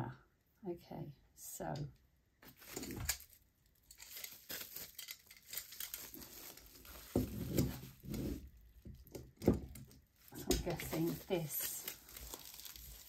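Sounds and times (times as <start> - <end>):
packaging crinkling and tearing: 2.4 - 13.0.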